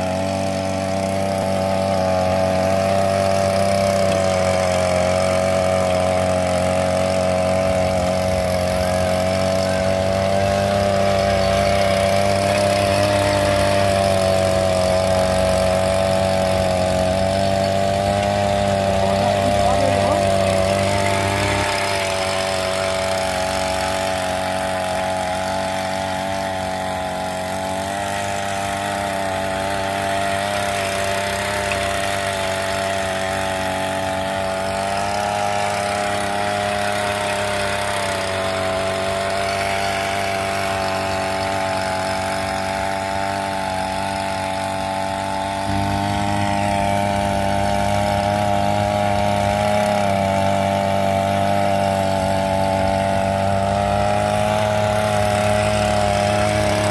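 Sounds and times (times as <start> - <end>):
small petrol engine running: 0.0 - 56.9.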